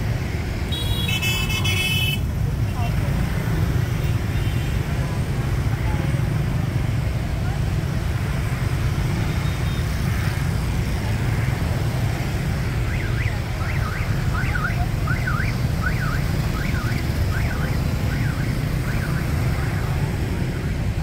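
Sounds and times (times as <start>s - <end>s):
rumble of motorbike and car traffic: 0.0s - 21.0s.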